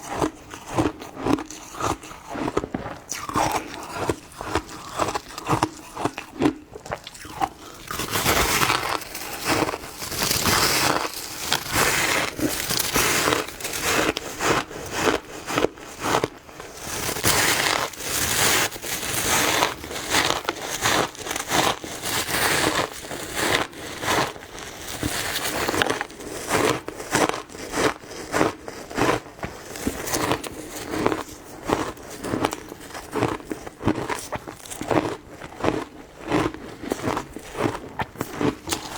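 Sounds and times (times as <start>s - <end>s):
ice crunched between teeth: 0.0s - 38.9s.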